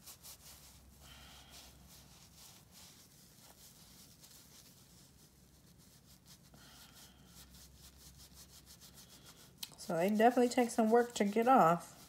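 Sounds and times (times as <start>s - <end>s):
tissue rubbing on skin: 0.0s - 12.0s.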